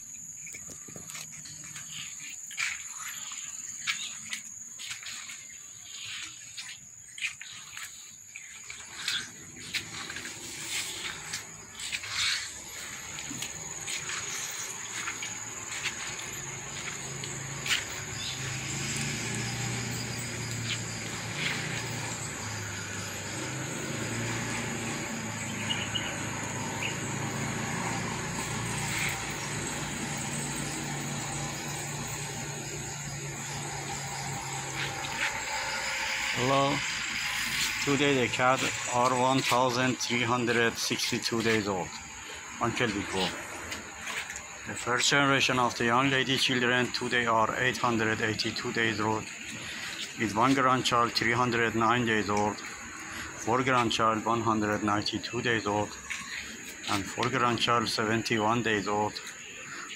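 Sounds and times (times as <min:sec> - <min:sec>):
bird chirps: 0:00.0 - 0:59.9
insects droning: 0:00.0 - 0:59.9.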